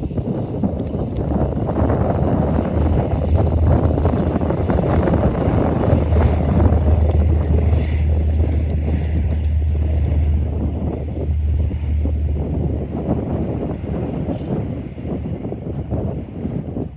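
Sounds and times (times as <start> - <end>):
airplane engine rumble: 0.0 - 16.9.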